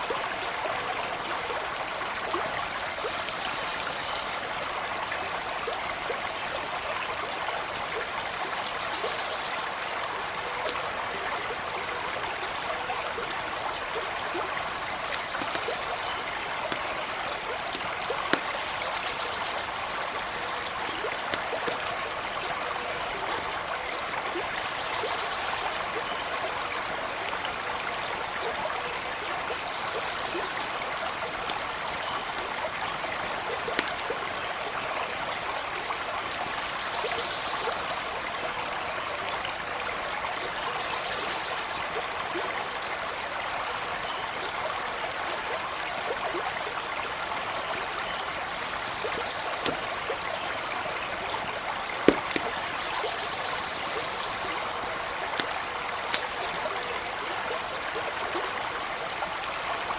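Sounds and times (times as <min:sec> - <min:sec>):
campfire crackling: 0:00.0 - 0:59.9
stream running: 0:00.0 - 0:59.9.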